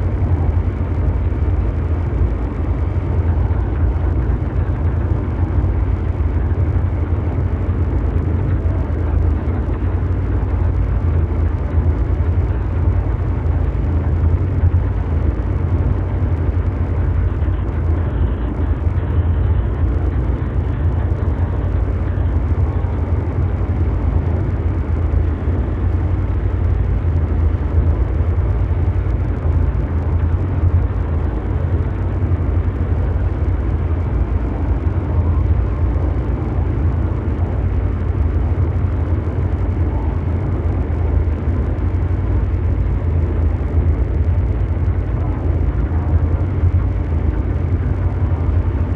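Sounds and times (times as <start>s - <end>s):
low mechanical drone: 0.0s - 48.9s.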